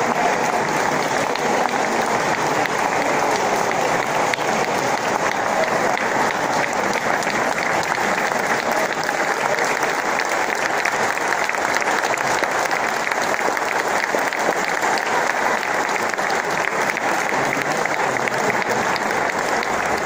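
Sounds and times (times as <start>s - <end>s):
crowd clapping: 0.0s - 20.0s.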